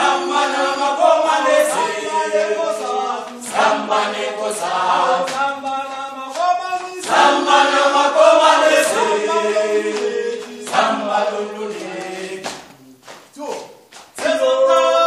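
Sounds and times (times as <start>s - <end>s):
group singing in harmony: 0.0s - 13.1s, 14.2s - 15.0s.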